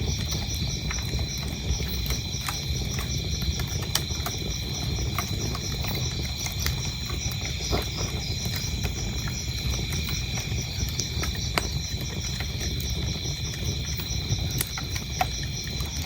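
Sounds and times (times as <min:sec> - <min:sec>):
crickets chirping: 0:00.0 - 0:16.0
wood fire crackling and popping: 0:00.0 - 0:16.0.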